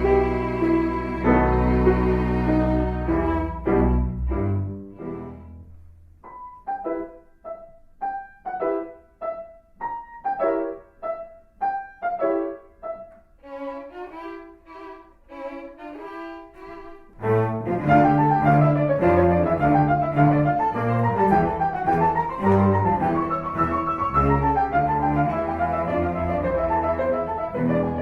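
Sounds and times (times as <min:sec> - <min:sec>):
instrumental music with strings and piano: 0:00.0 - 0:28.0.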